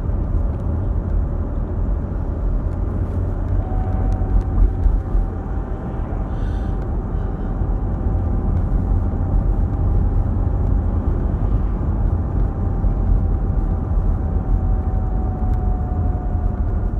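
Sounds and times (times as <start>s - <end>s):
car cabin low drone: 0.0s - 16.9s.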